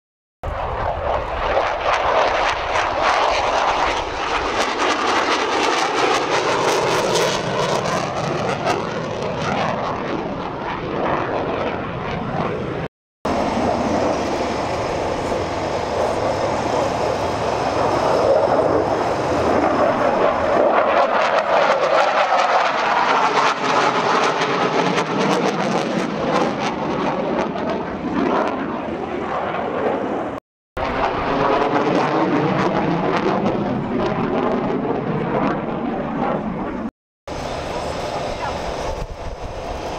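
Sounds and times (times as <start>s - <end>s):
jet fighter flying past: 0.4s - 39.9s.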